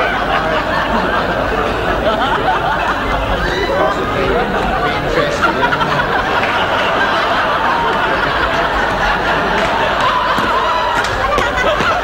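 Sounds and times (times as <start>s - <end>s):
studio audience laughing: 0.0s - 12.0s.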